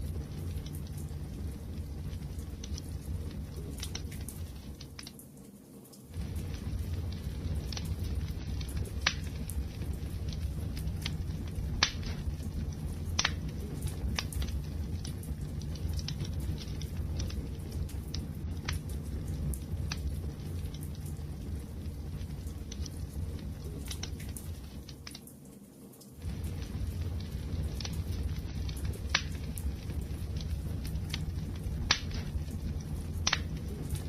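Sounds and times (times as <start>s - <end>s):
campfire rumble: 0.0s - 5.1s, 6.1s - 25.2s, 26.2s - 34.0s
fire popping and crackling: 0.0s - 34.0s.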